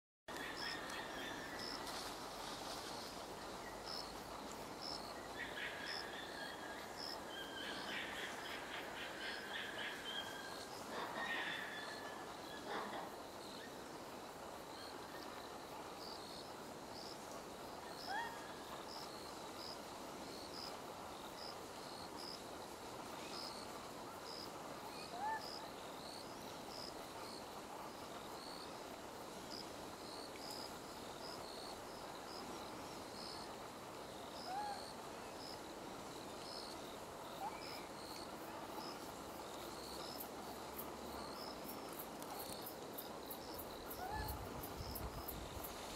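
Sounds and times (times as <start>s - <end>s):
faint outdoor hiss: 0.3s - 45.9s
insects chirping: 0.3s - 45.9s.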